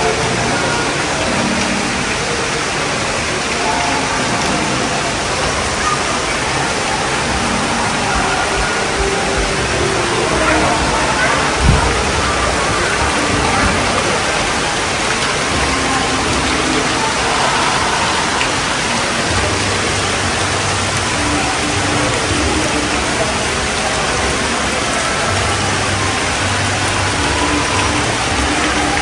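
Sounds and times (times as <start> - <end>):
fountain jets splashing into pool: 0.0 - 29.0.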